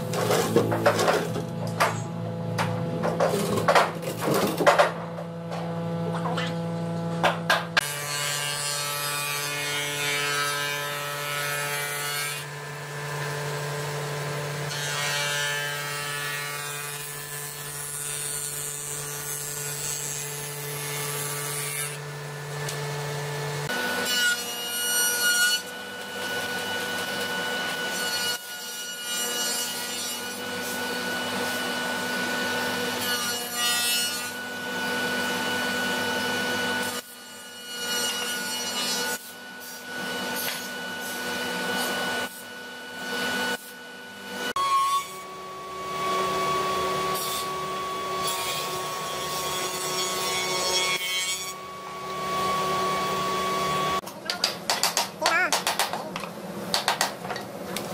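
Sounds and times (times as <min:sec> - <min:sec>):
table saw cutting wood: 0:00.0 - 0:02.3, 0:02.9 - 0:54.1
wood planer running: 0:00.0 - 0:44.6, 0:45.3 - 0:54.4.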